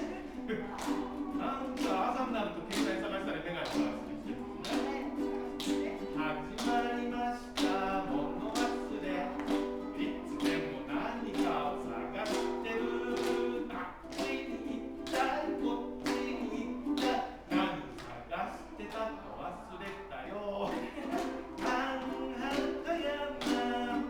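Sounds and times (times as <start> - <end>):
person singing: 0.0 - 18.0, 20.5 - 24.0
ukulele strumming: 0.0 - 18.2, 20.6 - 24.0.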